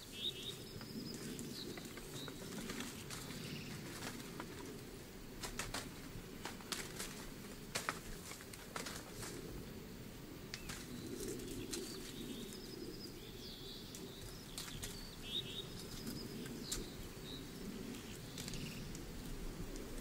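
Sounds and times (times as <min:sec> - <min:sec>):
small birds chirping: 0:00.0 - 0:09.5, 0:10.4 - 0:20.0.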